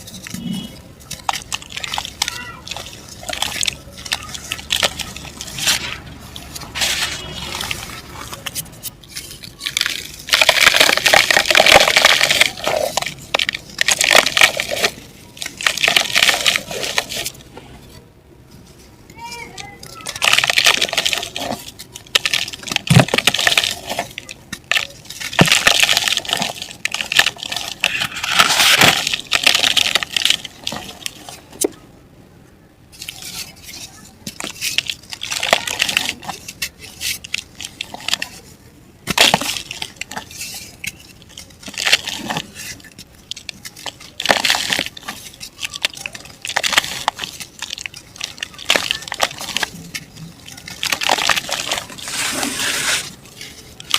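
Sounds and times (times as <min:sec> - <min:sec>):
dry mud crumbling and crunching: 0:00.0 - 0:32.1, 0:32.8 - 0:53.9.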